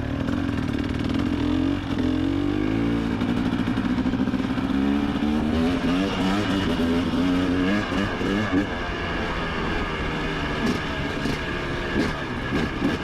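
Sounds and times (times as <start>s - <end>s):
motocross bike engine accelerating: 0.2s - 13.0s.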